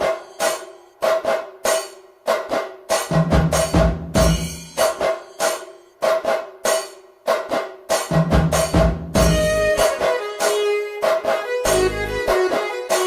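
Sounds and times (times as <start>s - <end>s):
background music with percussive beat: 0.0s - 13.0s.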